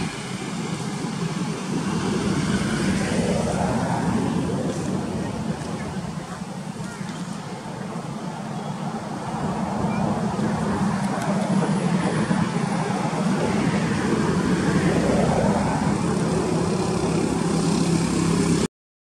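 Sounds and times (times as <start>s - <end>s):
vehicle-like rumble: 0.0s - 18.7s.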